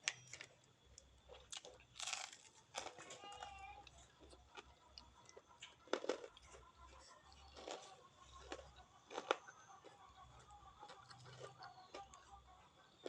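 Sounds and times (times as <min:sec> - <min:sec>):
person chewing: 0:01.3 - 0:03.1, 0:03.8 - 0:12.6.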